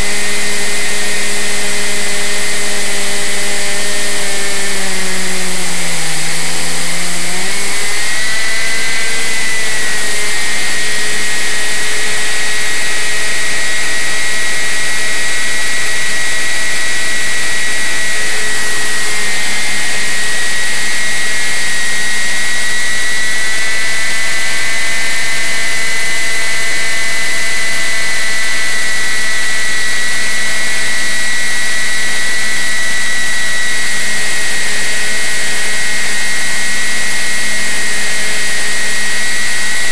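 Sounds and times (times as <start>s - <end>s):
model aircraft motor whine: 0.0s - 39.9s.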